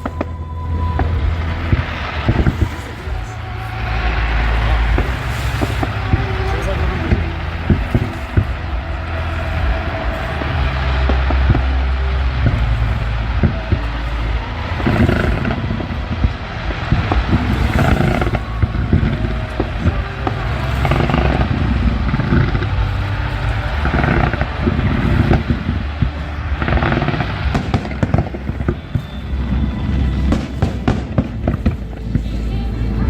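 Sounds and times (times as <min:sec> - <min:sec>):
fireworks booming: 0:00.0 - 0:32.3
fireworks crackling: 0:00.0 - 0:33.0.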